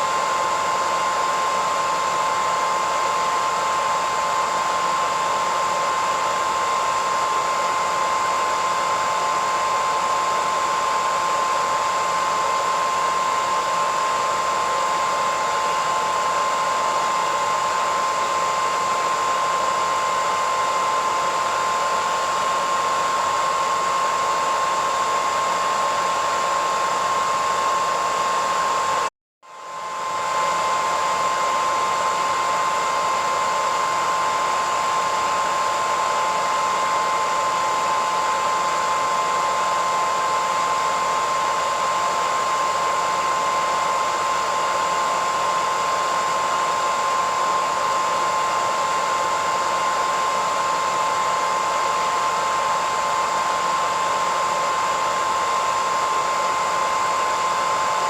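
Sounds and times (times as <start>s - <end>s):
hairdryer running: 0.0s - 58.0s.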